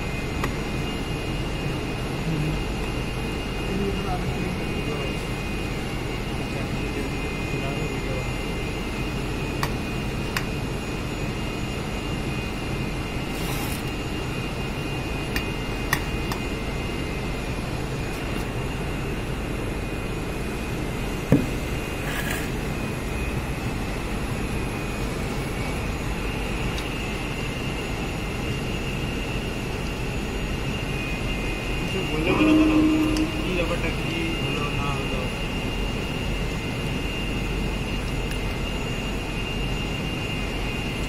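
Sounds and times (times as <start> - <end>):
workshop machinery drone: 0.0 - 41.0.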